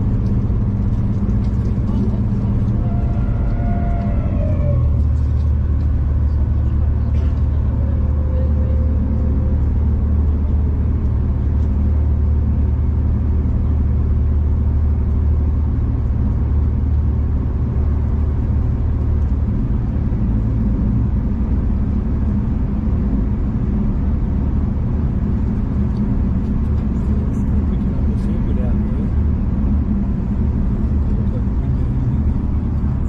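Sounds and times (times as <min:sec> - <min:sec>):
train rumble from inside carriage: 0:00.0 - 0:33.0.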